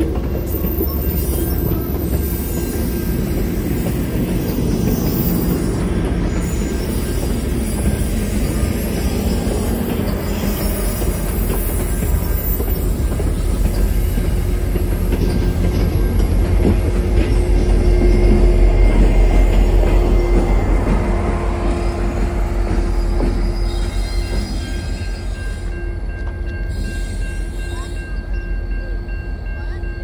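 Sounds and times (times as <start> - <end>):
diesel locomotive drone: 0.0 - 30.0
train wheels rumbling on rails: 0.0 - 30.0.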